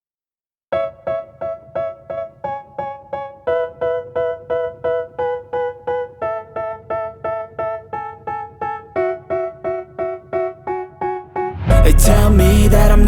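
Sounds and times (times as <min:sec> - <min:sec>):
piano repeated chords: 0:00.7 - 0:13.0.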